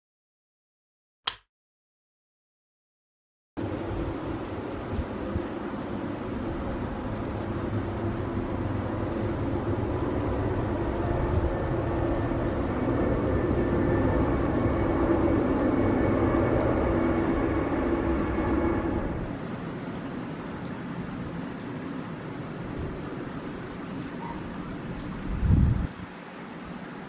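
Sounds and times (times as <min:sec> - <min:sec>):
jet engines on approach: 0:03.6 - 0:27.0.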